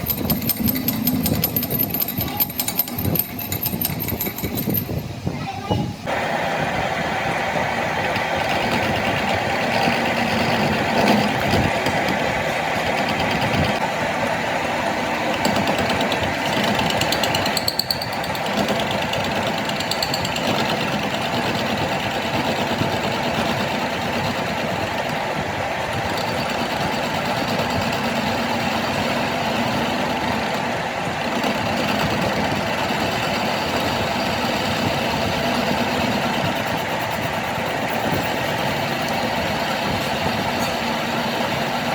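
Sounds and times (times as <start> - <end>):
large engine running: 6.1 - 41.9.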